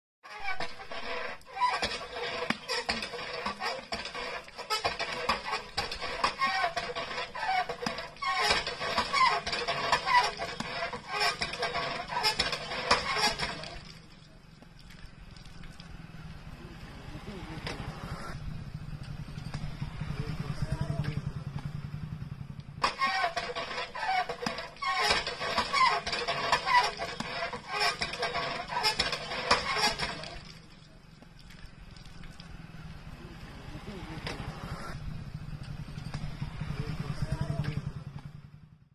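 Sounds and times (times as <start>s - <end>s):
hand pump squeaking and clanking: 0.2s - 16.5s, 17.6s - 33.0s, 34.2s - 38.4s.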